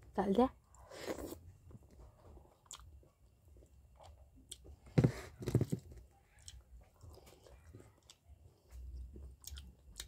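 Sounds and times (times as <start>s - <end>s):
eating by hand: 0.7s - 10.0s.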